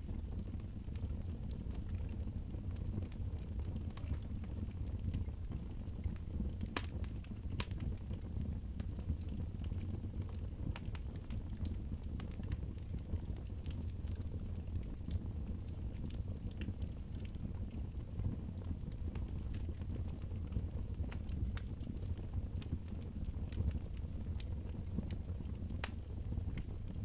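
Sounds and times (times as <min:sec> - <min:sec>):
fire crackles and pops: 0:00.0 - 0:27.0
wood fire rumbling: 0:00.0 - 0:27.0.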